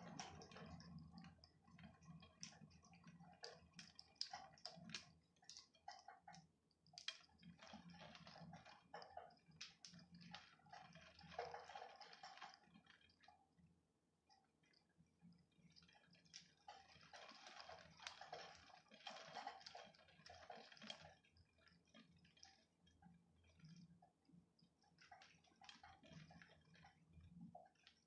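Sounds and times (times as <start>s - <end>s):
faint rain dripping and pattering: 0.0s - 28.0s.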